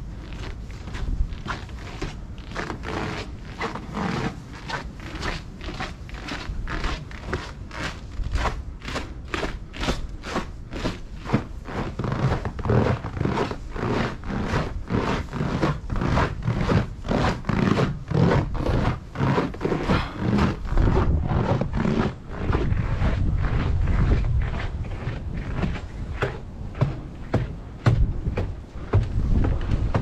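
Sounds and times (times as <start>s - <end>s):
footsteps crunching on snow: 0.1s - 30.0s.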